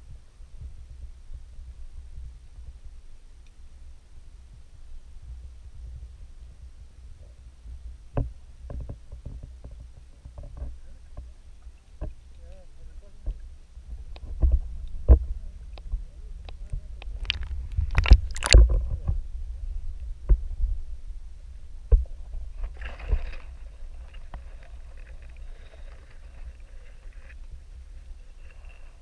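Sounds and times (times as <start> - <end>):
underwater water rumble: 0.0 - 29.0.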